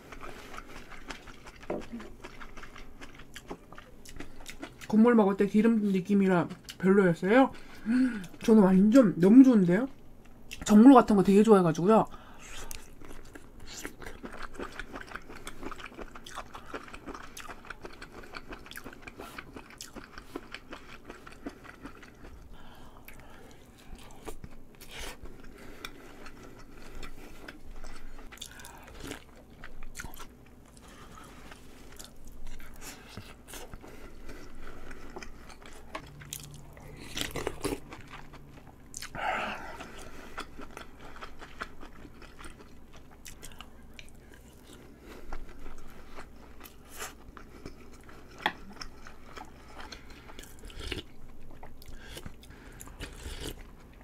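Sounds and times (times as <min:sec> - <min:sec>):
person chewing food: 0:00.0 - 0:05.0, 0:12.2 - 0:54.0.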